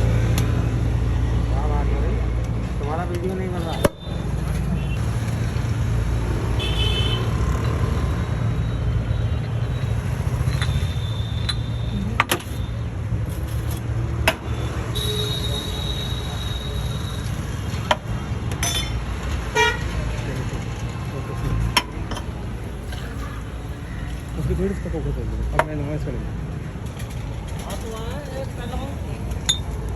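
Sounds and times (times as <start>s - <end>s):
traffic rumble: 0.0s - 29.9s.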